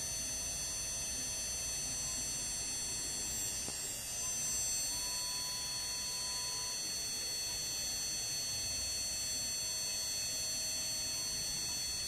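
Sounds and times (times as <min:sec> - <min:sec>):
milling machine spindle whine: 0:00.0 - 0:12.0.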